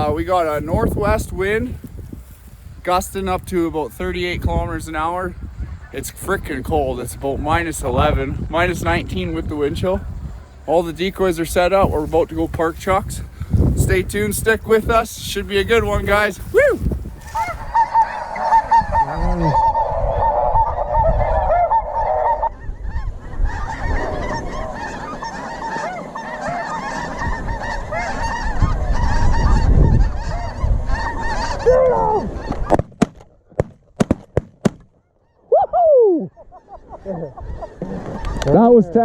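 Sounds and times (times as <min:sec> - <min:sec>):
wind rumble: 0:00.0 - 0:32.8
geese honking: 0:02.0 - 0:32.8, 0:36.2 - 0:39.0.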